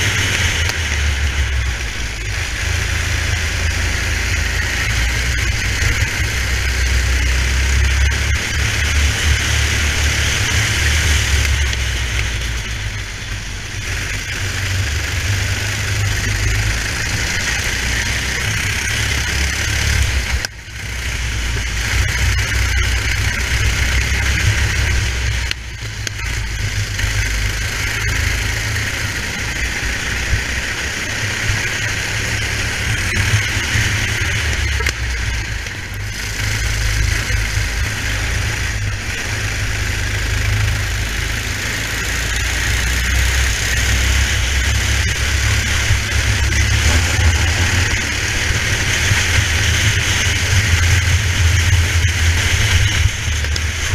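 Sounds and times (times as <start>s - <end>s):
kart engine running: 0.0s - 53.9s.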